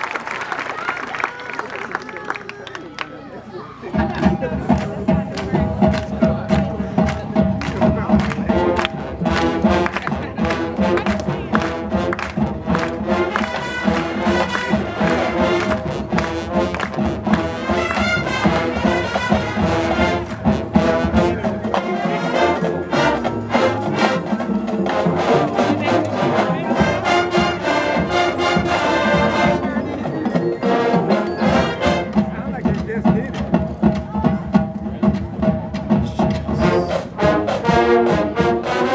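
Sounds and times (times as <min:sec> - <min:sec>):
marching band brass music: 0:03.2 - 0:38.9
drum hits: 0:04.0 - 0:38.7.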